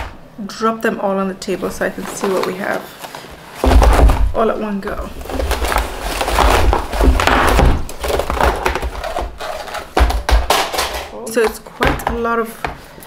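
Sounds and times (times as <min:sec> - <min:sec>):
packages rustling and clattering: 0:01.4 - 0:12.0.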